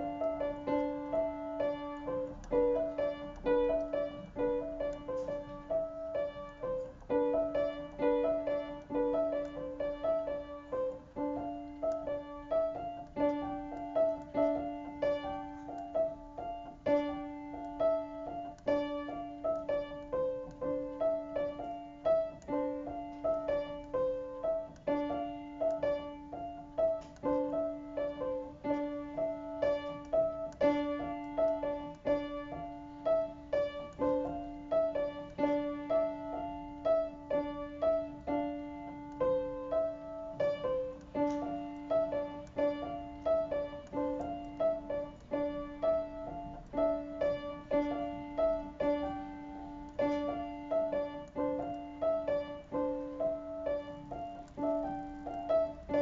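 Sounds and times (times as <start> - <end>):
solo piano piece: 0.0 - 56.0.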